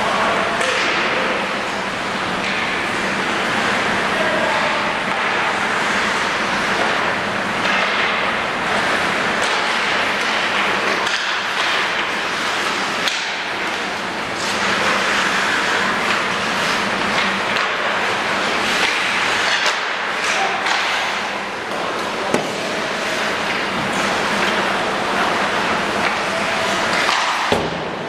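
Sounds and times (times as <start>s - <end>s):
ice rink background noise: 0.0s - 28.0s.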